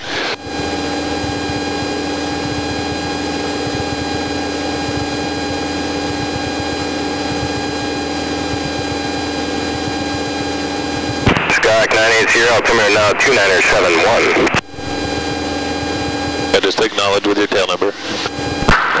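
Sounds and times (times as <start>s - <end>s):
aircraft engine droning in cockpit: 0.0s - 19.0s
multi-pitched hum: 0.0s - 19.0s.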